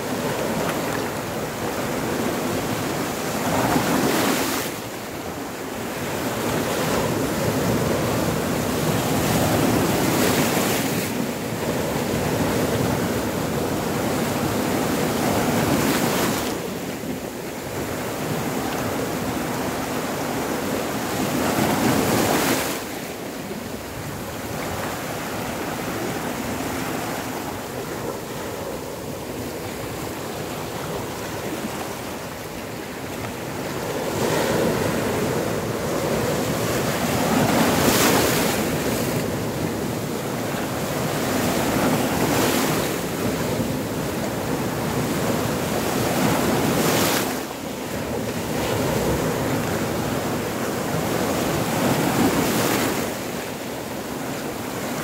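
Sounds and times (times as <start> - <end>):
sea waves crashing on rocks: 0.0 - 55.0.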